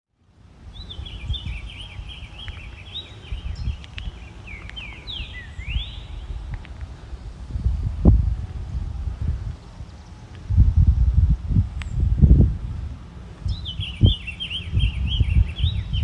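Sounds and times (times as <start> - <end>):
low rumble: 0.4 - 16.0
songbird chirping: 0.5 - 16.0.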